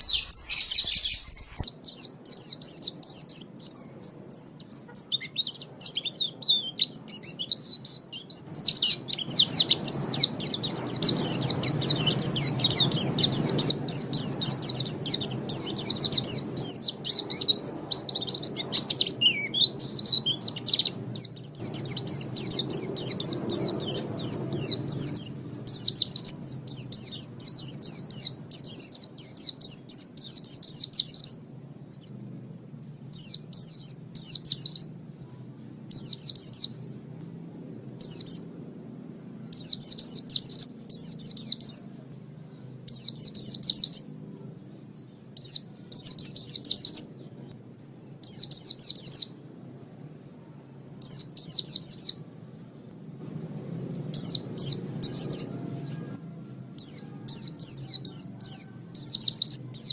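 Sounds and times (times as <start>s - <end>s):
bird twittering chatter: 0.0s - 38.7s, 39.4s - 56.2s, 56.8s - 59.9s.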